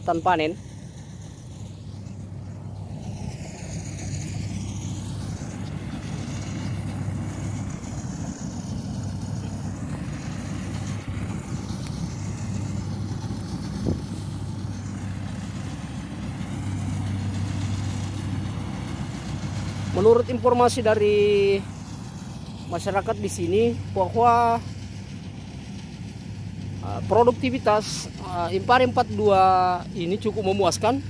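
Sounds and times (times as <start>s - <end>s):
combine harvester engine hum: 0.0s - 31.0s.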